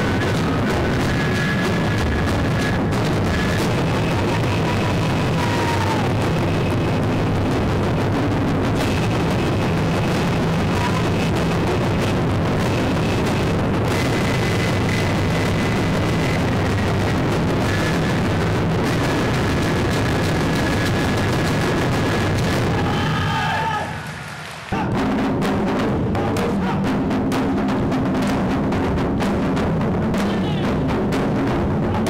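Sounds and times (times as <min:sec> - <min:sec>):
taiko drums drumming loudly: 0:00.0 - 0:24.1, 0:24.7 - 0:32.0.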